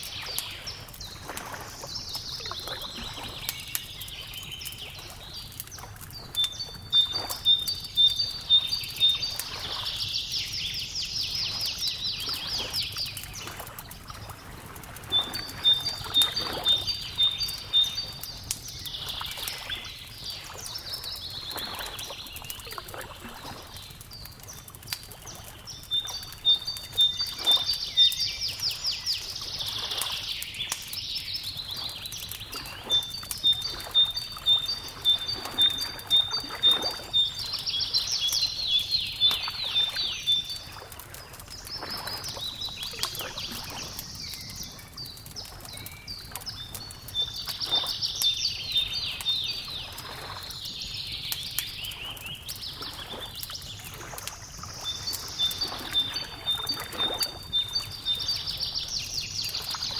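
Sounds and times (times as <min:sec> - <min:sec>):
songbird singing: 0:00.0 - 0:14.4, 0:15.1 - 0:59.9
wood fire crackling: 0:00.0 - 0:59.8.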